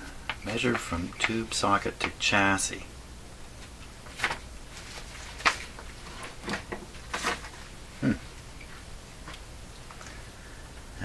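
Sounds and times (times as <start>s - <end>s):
faint steady low hum: 0.0s - 11.0s.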